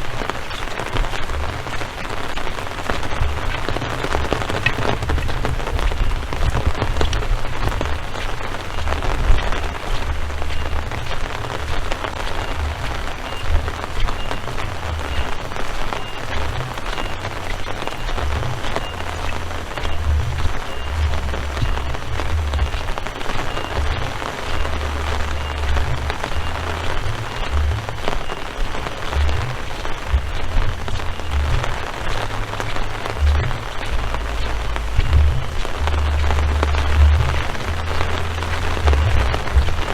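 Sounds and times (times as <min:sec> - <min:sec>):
low rumble: 0:00.0 - 0:39.9
rain patter: 0:00.0 - 0:39.9.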